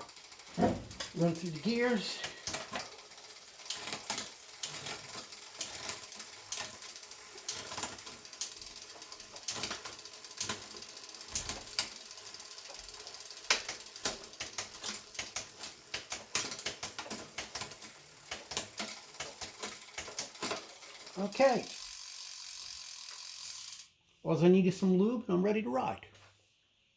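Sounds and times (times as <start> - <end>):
bike chain ticking and rattling: 0.0 - 23.9.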